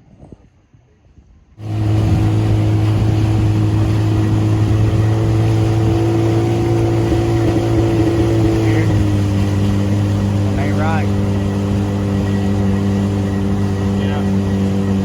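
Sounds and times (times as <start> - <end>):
outboard motor humming: 1.6 - 15.0.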